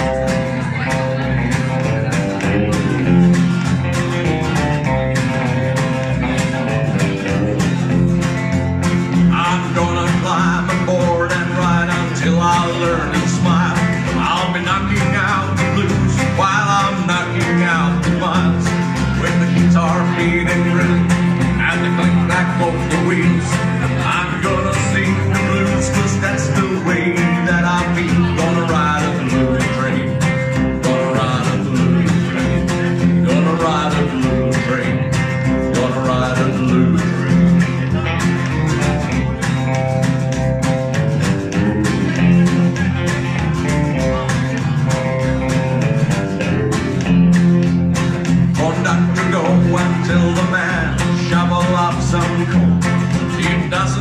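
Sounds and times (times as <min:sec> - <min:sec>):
electric guitar lead: 0:00.0 - 0:54.0
strummed acoustic guitar: 0:00.0 - 0:54.0
upright bass: 0:00.0 - 0:54.0.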